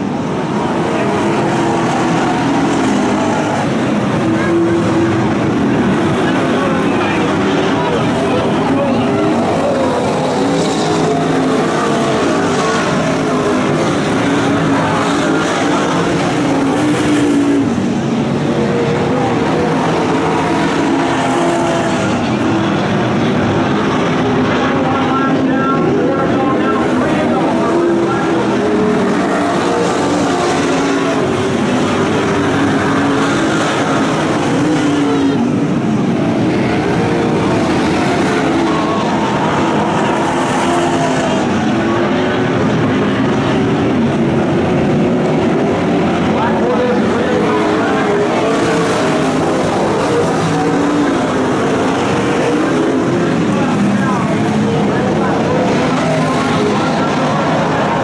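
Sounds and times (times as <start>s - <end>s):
race car engines running hard: 0.0s - 58.0s.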